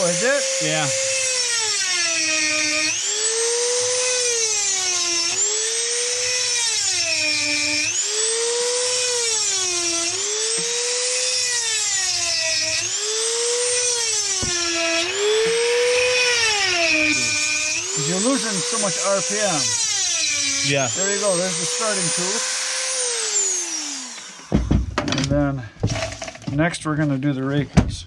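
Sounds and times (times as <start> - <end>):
electric chain grinder whining: 0.0 - 25.2.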